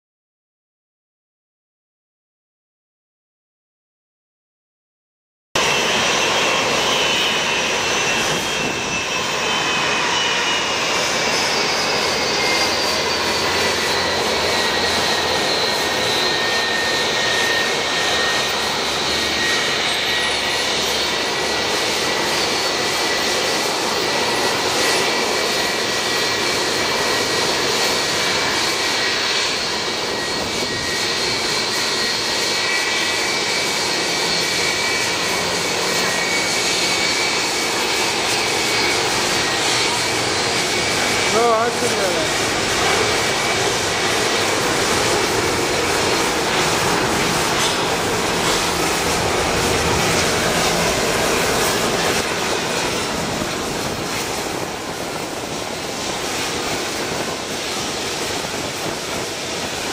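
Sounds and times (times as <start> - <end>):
jet engines whining and rumbling: 5.6 - 59.9.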